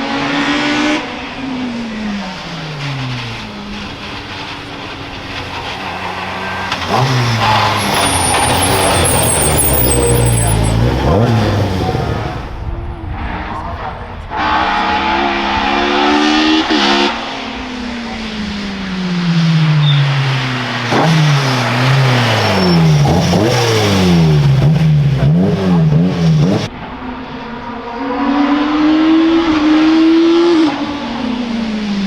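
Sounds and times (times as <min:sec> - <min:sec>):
another engine revving up: 0:00.0 - 0:26.7
race car engine revving: 0:00.0 - 0:32.0.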